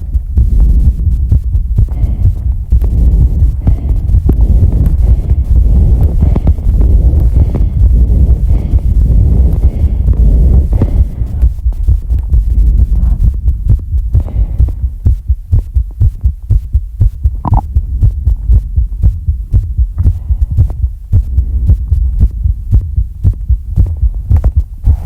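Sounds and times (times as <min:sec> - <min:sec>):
heavy rapid breathing on microphone: 0:00.0 - 0:25.0.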